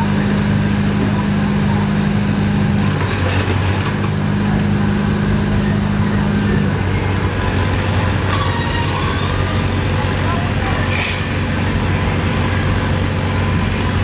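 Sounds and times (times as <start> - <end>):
hydraulic power unit drone: 0.0 - 14.0.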